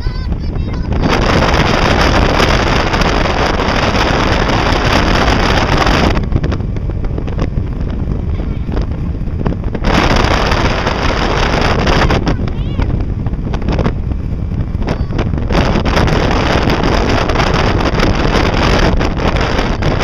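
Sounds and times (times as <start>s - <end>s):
boat noise: 0.0s - 20.0s
wind buffeting microphone: 0.0s - 20.0s.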